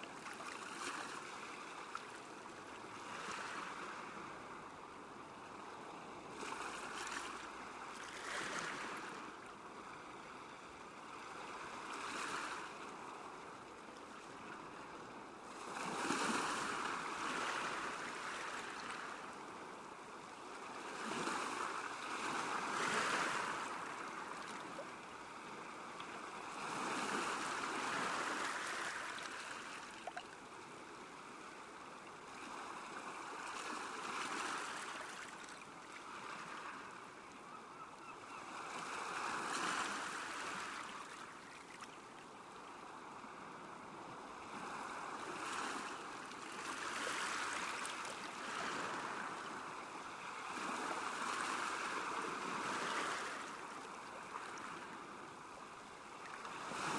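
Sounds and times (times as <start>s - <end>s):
small waves lapping on shore: 0.0s - 56.9s.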